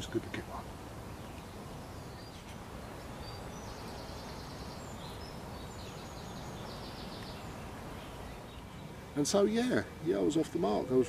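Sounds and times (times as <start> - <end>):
songbirds singing: 0.0 - 11.0
steady outdoor hiss: 0.0 - 11.0.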